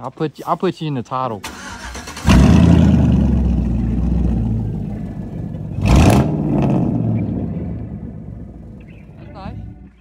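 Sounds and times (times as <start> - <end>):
truck engine starting and idling: 1.2 - 10.0.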